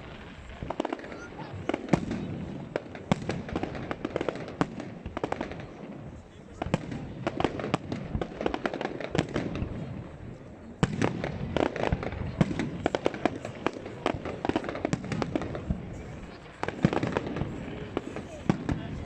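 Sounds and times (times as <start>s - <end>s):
fireworks bangs and crackling pops: 0.0s - 19.0s.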